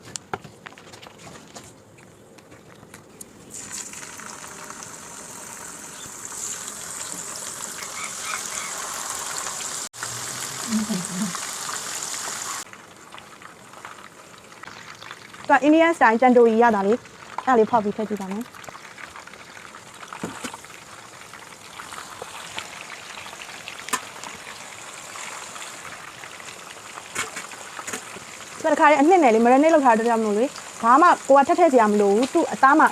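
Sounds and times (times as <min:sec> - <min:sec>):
oil sizzling as chicken fries: 0:03.5 - 0:32.9.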